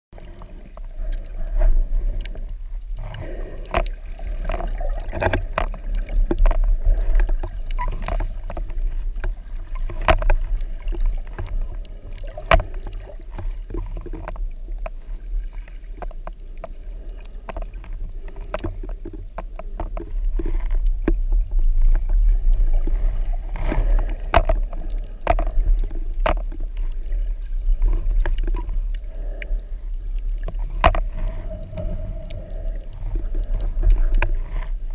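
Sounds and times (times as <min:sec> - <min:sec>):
muffled underwater rumble: 0:00.1 - 0:34.9.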